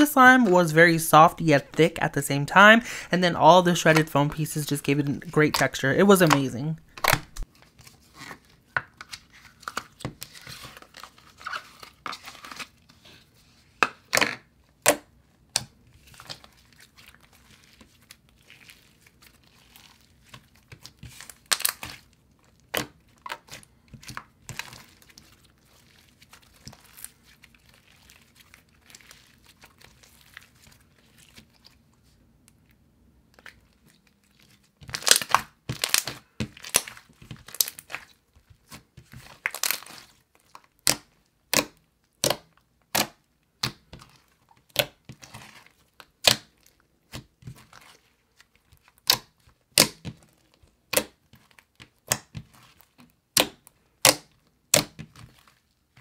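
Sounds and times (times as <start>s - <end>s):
slime squishing and crackling: 3.6s - 56.0s.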